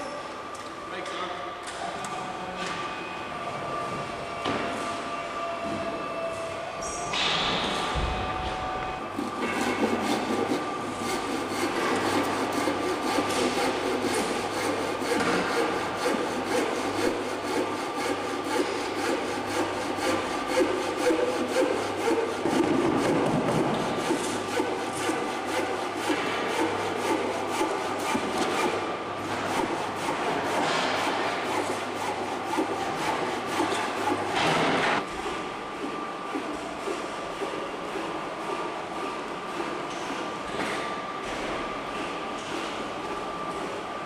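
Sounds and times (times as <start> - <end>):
scraping and rubbing of building work: 7.2 - 43.7.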